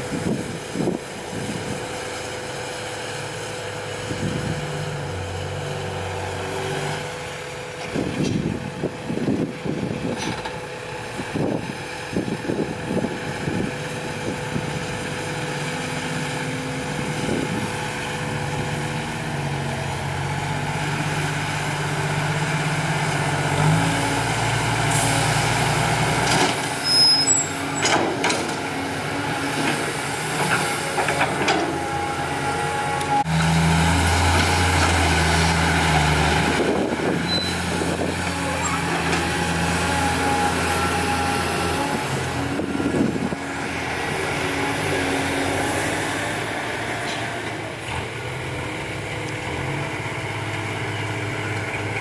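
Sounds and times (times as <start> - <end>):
dump truck diesel engine: 0.0 - 52.0
excavator diesel engine: 0.0 - 52.0.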